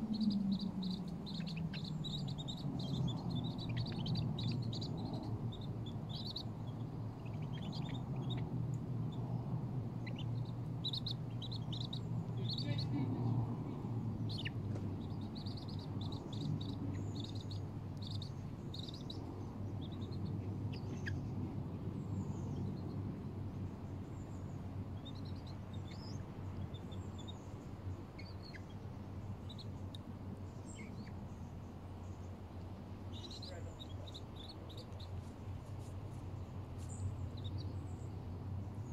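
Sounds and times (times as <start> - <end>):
birds chirping: 0.0 - 38.9
steady low rumble: 0.0 - 38.9.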